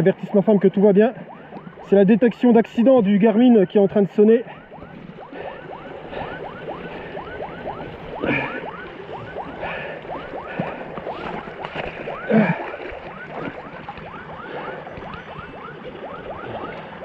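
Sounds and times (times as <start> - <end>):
rapid electronic chirping alarm: 0.0 - 17.0.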